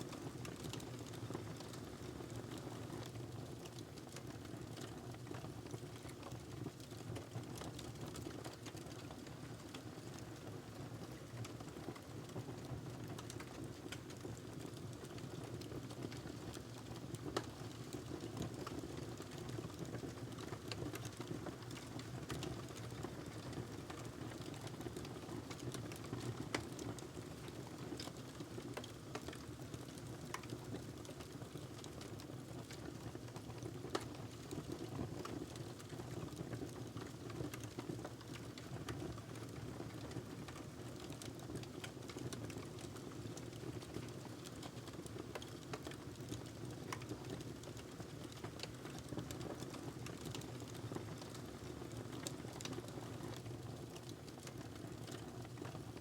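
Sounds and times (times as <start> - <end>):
fire crackling and popping: 0.1 - 56.0.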